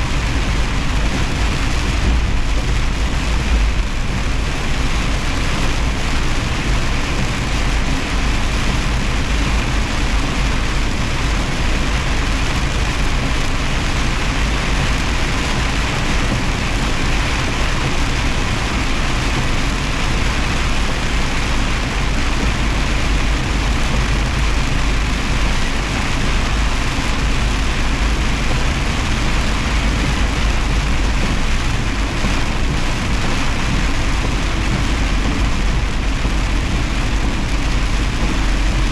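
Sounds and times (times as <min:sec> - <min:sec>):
road noise hiss: 0:00.0 - 0:38.9
truck engine rumble: 0:00.0 - 0:38.9.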